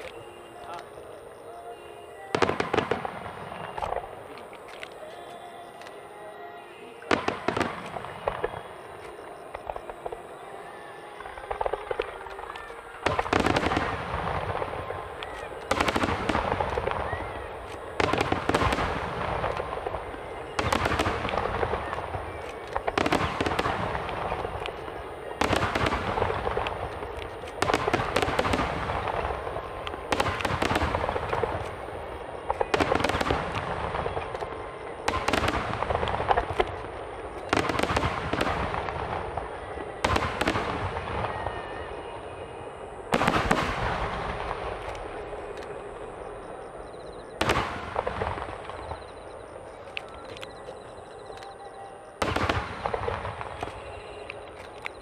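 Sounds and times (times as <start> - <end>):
fireworks bangs: 2.2 - 5.9, 7.0 - 55.0.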